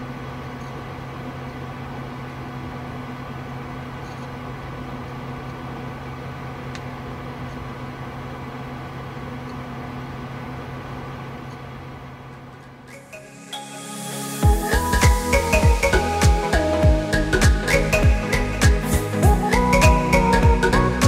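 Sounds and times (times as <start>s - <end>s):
low hum with overtones: 0.0s - 21.0s.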